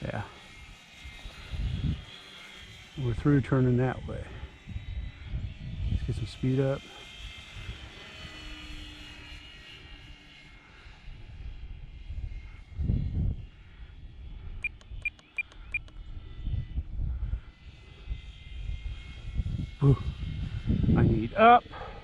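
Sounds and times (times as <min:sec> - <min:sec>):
model plane motor whining: 0:00.0 - 0:22.0
wind rumble on microphone: 0:00.0 - 0:22.0.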